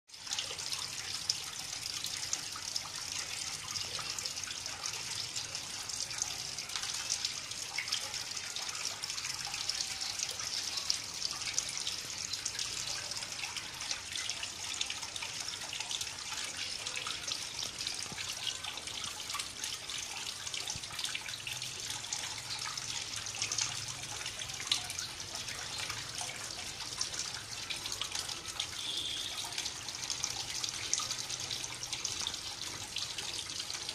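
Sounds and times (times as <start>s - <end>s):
water dripping: 0.1s - 33.9s.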